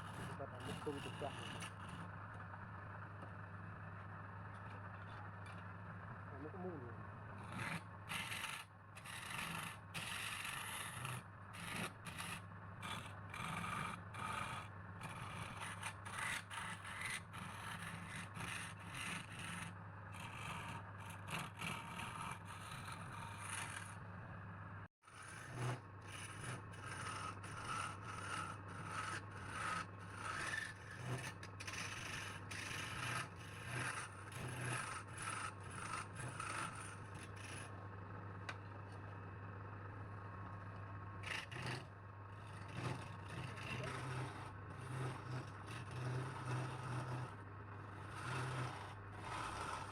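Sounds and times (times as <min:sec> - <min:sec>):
turning tool scraping wood: 0:00.0 - 0:03.4, 0:04.5 - 0:24.0, 0:25.2 - 0:39.2, 0:40.3 - 0:49.9
wood lathe humming: 0:00.0 - 0:24.2, 0:25.2 - 0:49.9.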